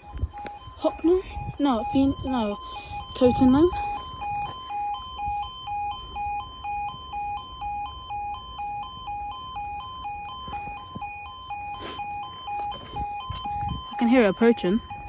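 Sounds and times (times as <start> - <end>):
two-tone crossing alarm: 0.0 - 15.0.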